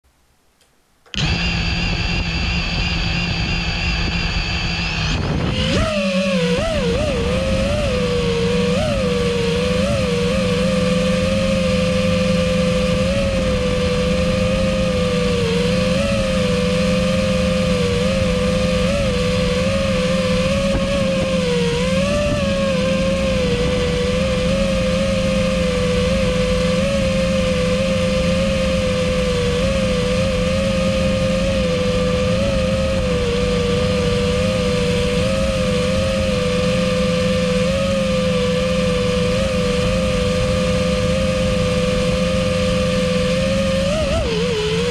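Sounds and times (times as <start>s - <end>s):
drone motors whining: 1.1s - 44.9s.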